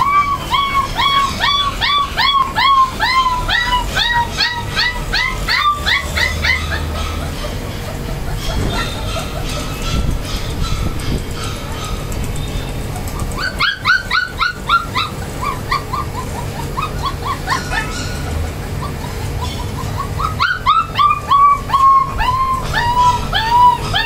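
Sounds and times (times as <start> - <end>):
puppy yelping: 0.0 - 24.0.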